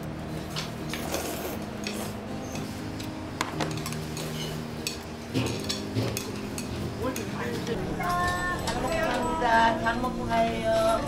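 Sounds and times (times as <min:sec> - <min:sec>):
utensils clinking on bowls: 0:00.9 - 0:09.8.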